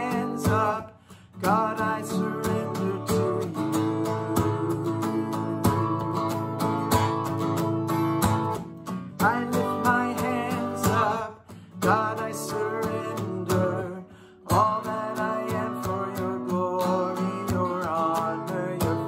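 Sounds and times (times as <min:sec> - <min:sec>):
man singing: 0:00.0 - 0:06.9, 0:09.1 - 0:19.0
strummed acoustic guitar: 0:00.0 - 0:19.0.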